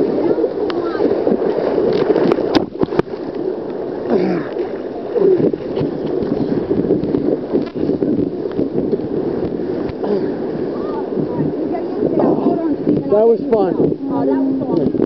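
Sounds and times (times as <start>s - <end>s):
sea water sloshing and splashing: 0.0s - 15.0s.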